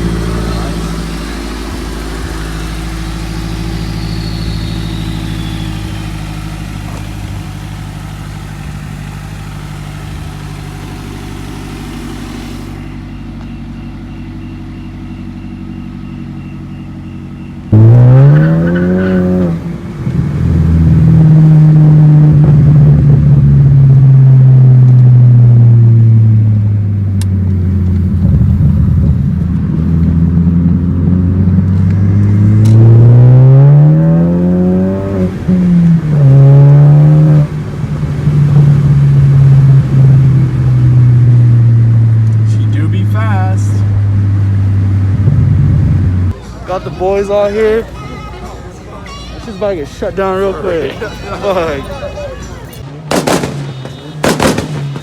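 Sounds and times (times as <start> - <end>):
car engine running and revving: 0.0 - 46.4.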